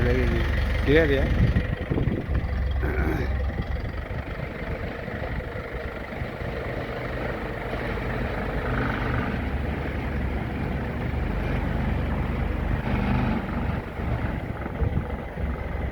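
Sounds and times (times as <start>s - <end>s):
vehicle engine rumbling: 0.0s - 15.9s.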